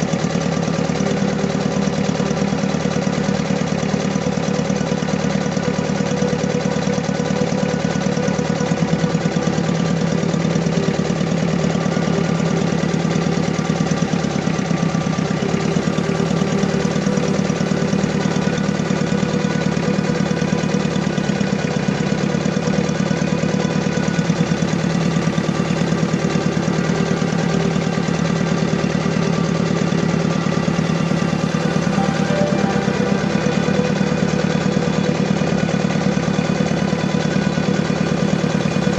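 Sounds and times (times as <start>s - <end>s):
engine idling with pulsing beat: 6.7s - 38.9s.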